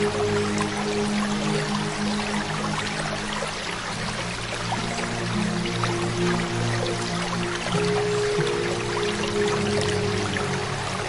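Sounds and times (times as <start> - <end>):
ambient music: 0.0 - 11.0
running water: 0.0 - 11.0.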